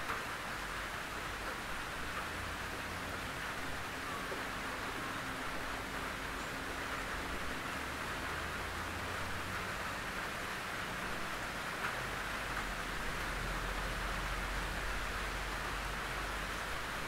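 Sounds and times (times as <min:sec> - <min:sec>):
rain on a tin roof: 0:00.0 - 0:17.0.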